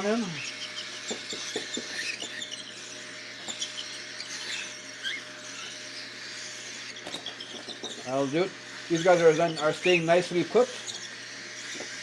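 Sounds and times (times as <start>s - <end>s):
baby birds begging squeaks: 0.0s - 12.0s.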